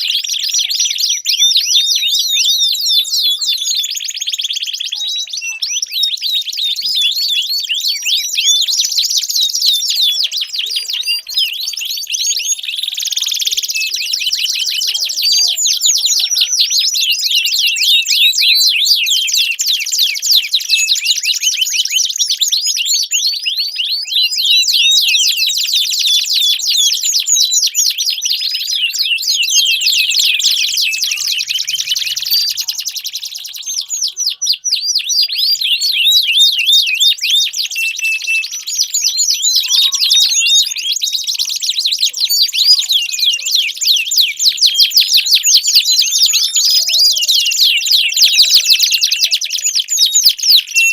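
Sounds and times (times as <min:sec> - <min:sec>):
canary trilling song: 0:00.0 - 0:50.9.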